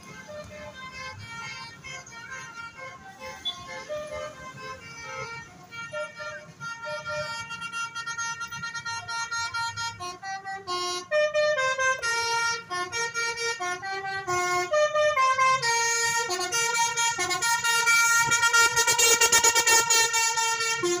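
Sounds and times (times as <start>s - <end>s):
musical bus air horn tune: 0.0s - 21.0s.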